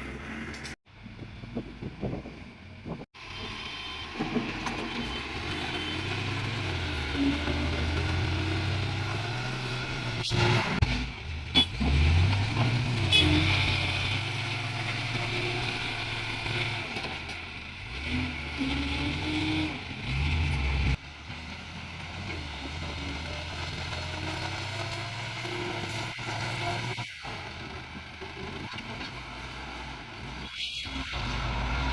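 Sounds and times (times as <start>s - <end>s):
diesel engine revving: 3.2s - 28.6s, 29.2s - 31.9s.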